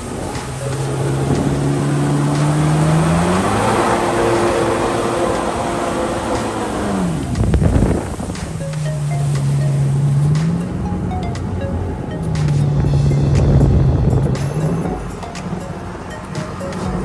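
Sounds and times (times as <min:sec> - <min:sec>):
jet ski engine running: 0:00.0 - 0:17.0
loud rush of noise: 0:00.0 - 0:17.0.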